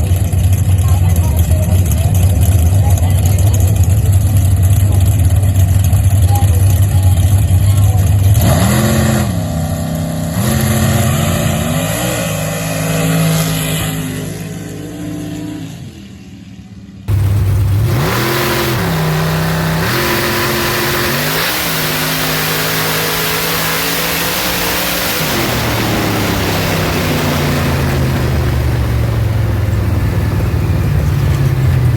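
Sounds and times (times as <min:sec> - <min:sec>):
truck engine revving hard: 0:00.0 - 0:15.8, 0:17.1 - 0:31.9.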